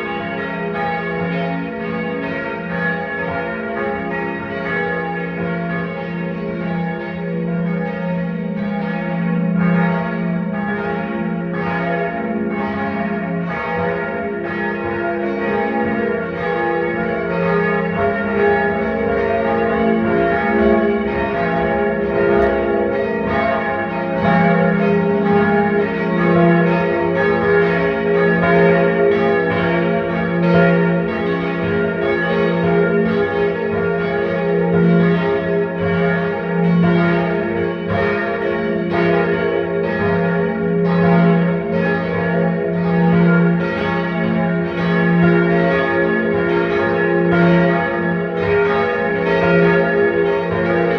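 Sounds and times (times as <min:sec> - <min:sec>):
church bells ringing a peal: 0:00.0 - 0:50.9.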